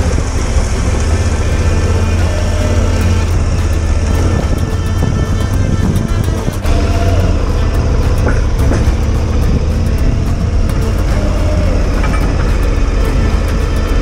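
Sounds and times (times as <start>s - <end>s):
motorcycle engine running: 0.0s - 14.0s
wind rumbling on microphone: 0.0s - 14.0s.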